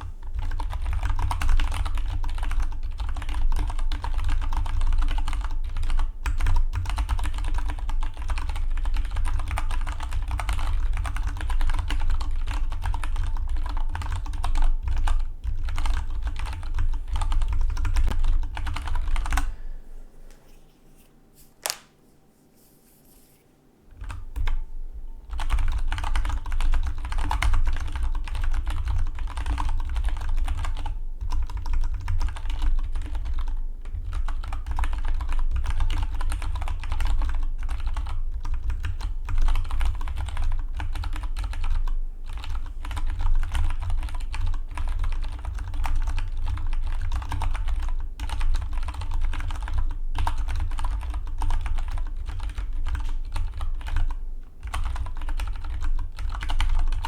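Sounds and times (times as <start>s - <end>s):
mechanical keyboard typing: 0.3s - 19.5s, 25.3s - 57.0s.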